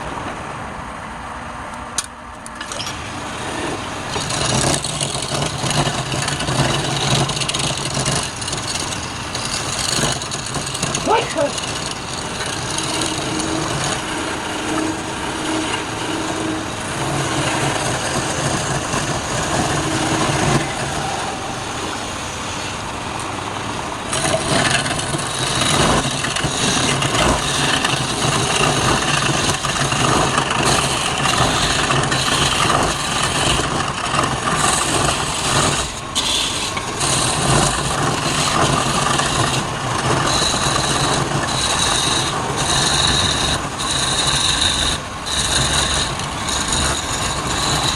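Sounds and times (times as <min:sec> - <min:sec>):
lathe motor hum: 0:02.6 - 0:47.9
turning tool cutting wood: 0:02.6 - 0:47.9.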